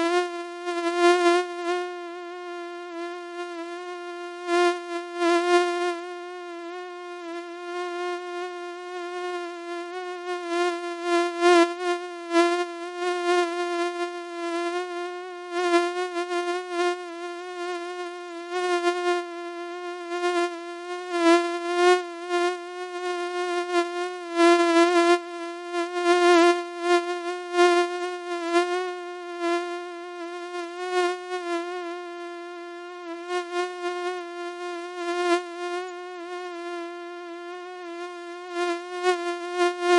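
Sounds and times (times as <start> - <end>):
mosquito whine: 0.0 - 39.9.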